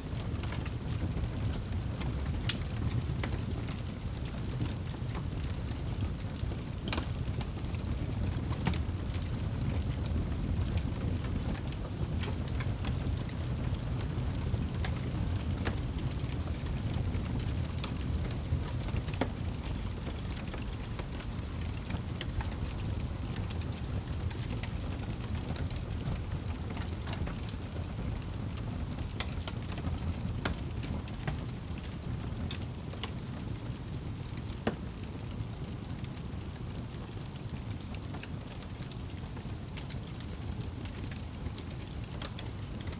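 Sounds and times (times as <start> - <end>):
steady rain: 0.0 - 42.9
wood fire crackling: 0.0 - 42.9.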